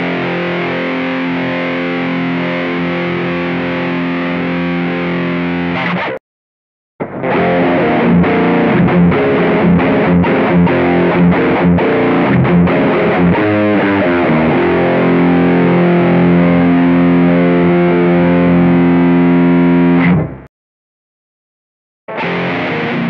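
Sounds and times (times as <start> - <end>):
distorted electric guitar riff: 0.0 - 6.2, 7.0 - 20.5, 22.1 - 23.0.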